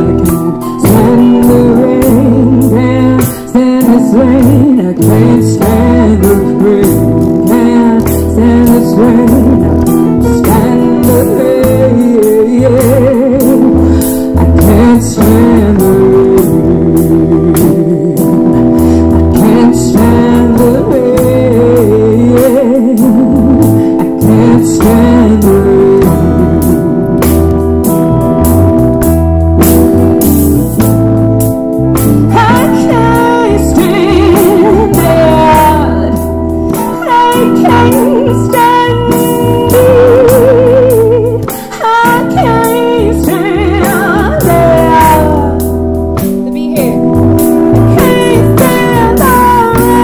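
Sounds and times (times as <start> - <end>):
acoustic guitar: 0.0 - 50.0
bass guitar: 0.0 - 50.0
drum kit with cymbals: 0.0 - 50.0
keyboard: 0.0 - 50.0
live soul band playing: 0.0 - 50.0.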